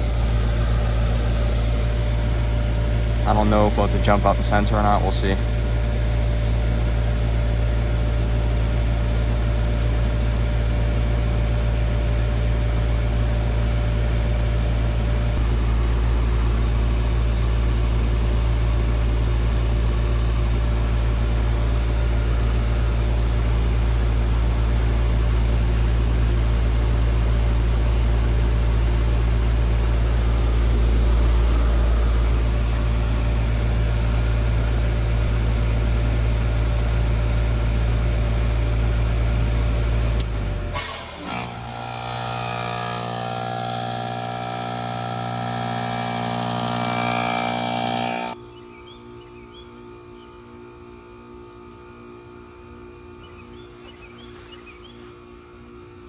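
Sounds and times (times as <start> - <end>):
heat pump humming: 0.0 - 48.4.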